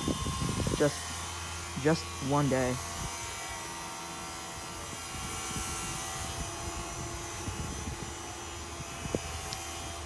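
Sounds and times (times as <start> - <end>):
compressor low hum: 0.0 - 10.0.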